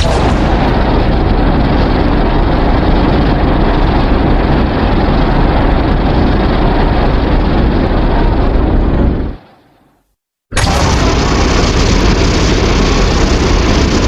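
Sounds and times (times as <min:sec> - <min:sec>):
loud rumbling noise: 0:00.0 - 0:09.5, 0:10.5 - 0:14.0.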